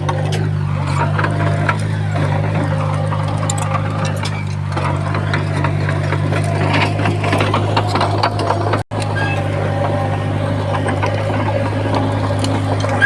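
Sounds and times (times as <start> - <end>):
clanks and knocks: 0.0 - 13.0
diesel engine running: 0.0 - 13.0.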